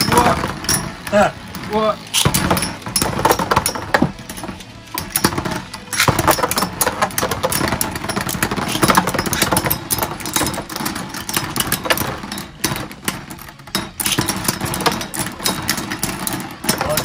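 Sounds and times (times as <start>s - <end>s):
spinning tops clashing and scraping: 0.0s - 17.0s
spinning tops whirring: 0.0s - 17.0s.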